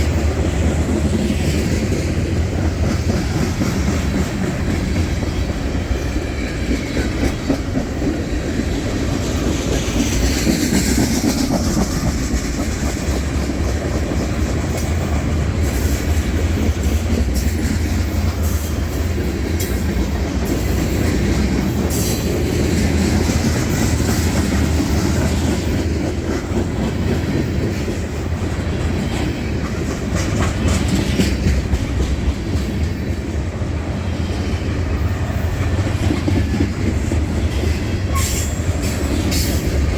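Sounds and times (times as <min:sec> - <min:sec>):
freight train wheels clacking: 0:00.0 - 0:39.9
train rumble: 0:00.0 - 0:39.9.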